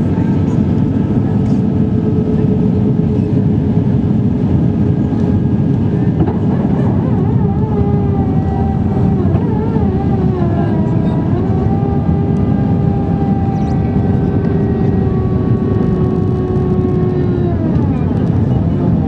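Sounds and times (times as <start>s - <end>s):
airplane cabin roar: 0.0s - 19.0s
whining jet engine tone: 0.0s - 19.0s.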